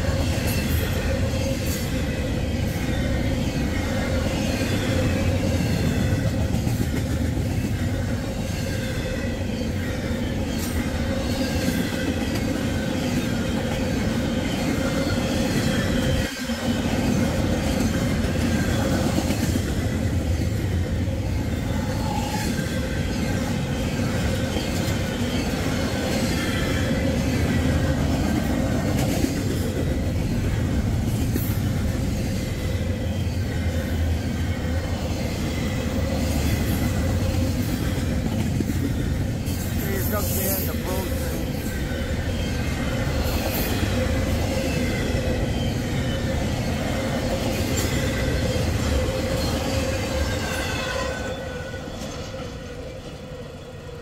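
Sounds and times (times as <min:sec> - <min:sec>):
steel train wheels rumbling on rails: 0:00.0 - 0:54.0.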